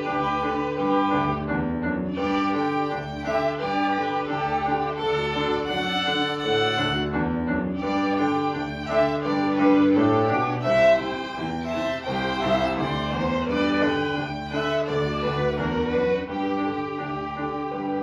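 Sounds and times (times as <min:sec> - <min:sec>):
violin ensemble playing: 0:00.0 - 0:18.0.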